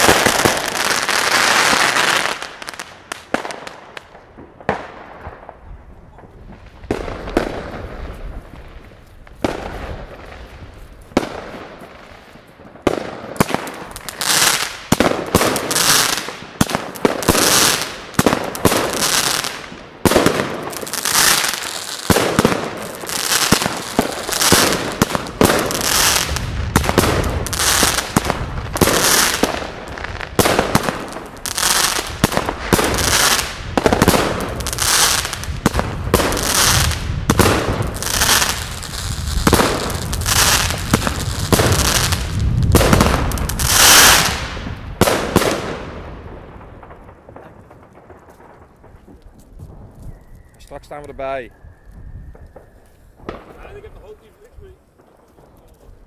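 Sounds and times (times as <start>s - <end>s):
fireworks shots bursting with hiss: 0.0s - 49.8s, 52.3s - 56.0s.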